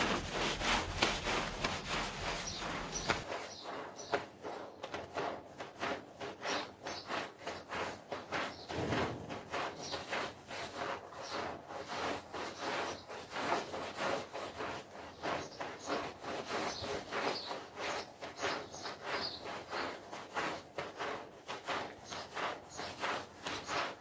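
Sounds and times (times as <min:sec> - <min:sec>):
stiff brush scrubbing carpet: 0:00.0 - 0:24.0.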